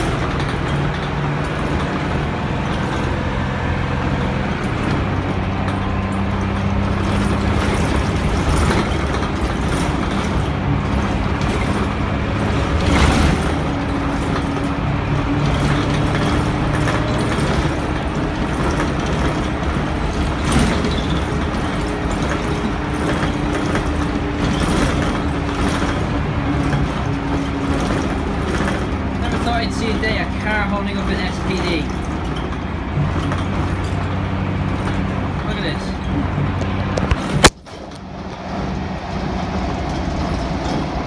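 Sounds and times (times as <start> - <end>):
diesel bus engine pulling hard: 0.0 - 41.0
road noise: 0.0 - 41.0.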